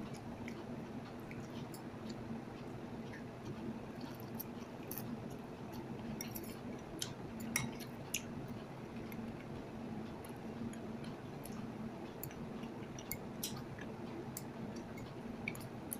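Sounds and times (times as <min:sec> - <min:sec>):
chewing: 0:00.0 - 0:15.9
steady low hum: 0:00.0 - 0:15.9.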